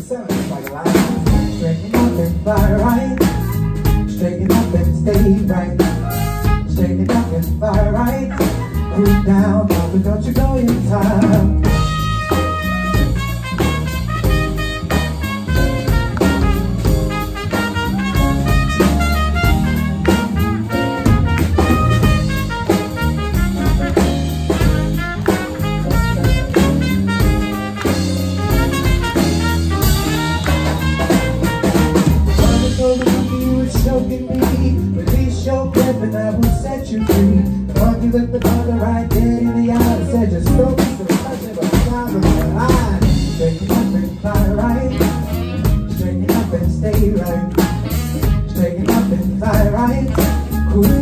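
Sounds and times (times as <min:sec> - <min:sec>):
drum kit beat: 0:00.0 - 0:51.0
jazz band playing swing: 0:00.0 - 0:51.0.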